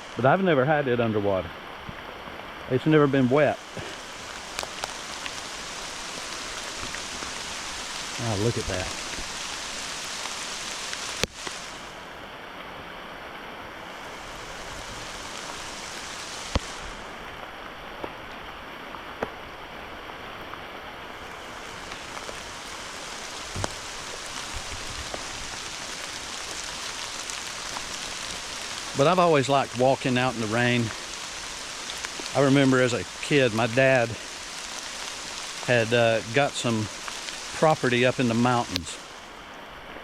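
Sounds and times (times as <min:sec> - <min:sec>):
heavy rain hissing: 0:00.0 - 0:40.0.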